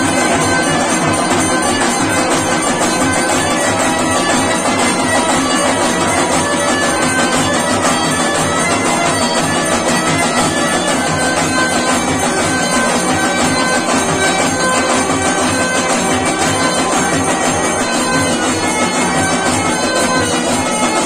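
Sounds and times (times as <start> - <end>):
droning reedy wind instrument: 0.0 - 21.0
large drum beating fast rhythm: 0.0 - 21.0.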